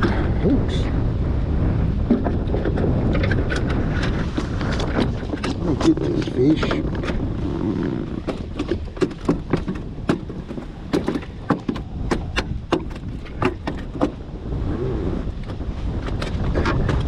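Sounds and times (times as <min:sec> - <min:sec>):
wind buffeting microphone: 0:00.0 - 0:17.0
clicks and knocks handling fish: 0:02.1 - 0:14.2, 0:15.4 - 0:17.0.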